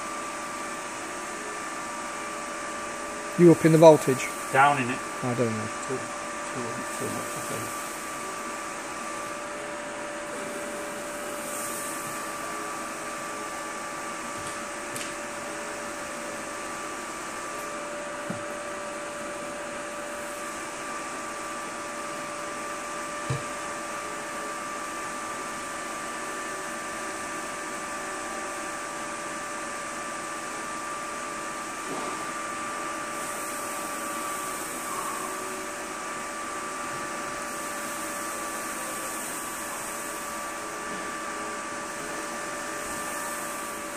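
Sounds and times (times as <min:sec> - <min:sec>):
cooling fans whirring: 0:00.0 - 0:43.9.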